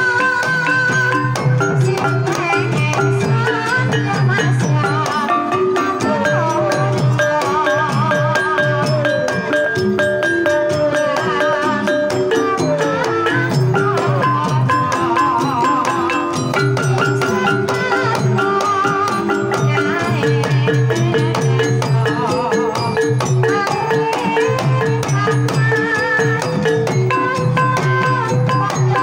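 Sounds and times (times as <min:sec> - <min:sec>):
hand drum playing: 0:00.0 - 0:29.0
metallophone notes: 0:00.0 - 0:29.0
woman singing: 0:00.0 - 0:29.0.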